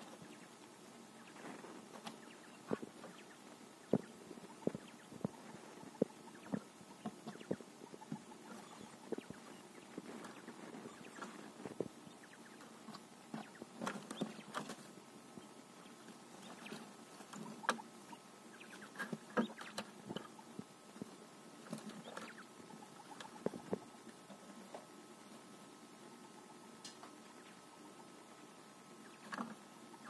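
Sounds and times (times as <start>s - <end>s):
bird pecking and scratching in hay: 0.0s - 25.5s.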